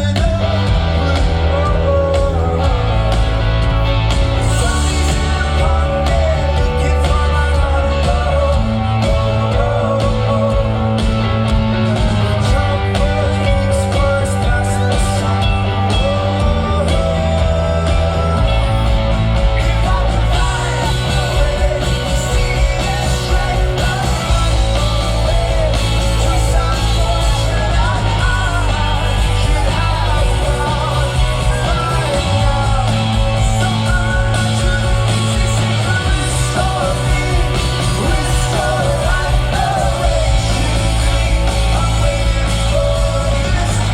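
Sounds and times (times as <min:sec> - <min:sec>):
bass line: 0:00.0 - 0:43.9
lead singer vocals: 0:00.0 - 0:43.9
live rock band playing: 0:00.0 - 0:43.9.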